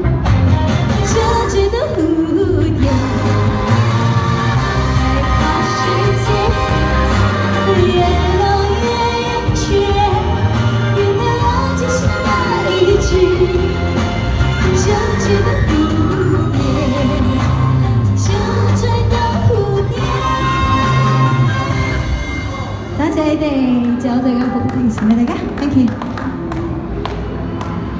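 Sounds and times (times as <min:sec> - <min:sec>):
pop song with singing: 0:00.0 - 0:25.0.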